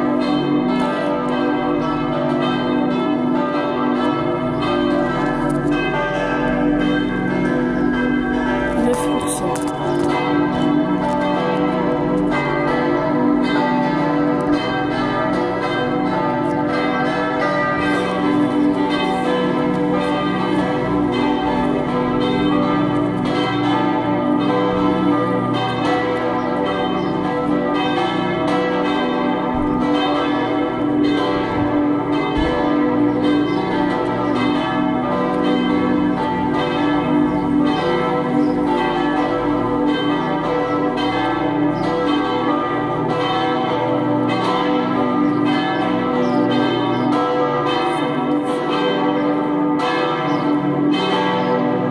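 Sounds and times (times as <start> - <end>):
church bells pealing: 0.0 - 51.9.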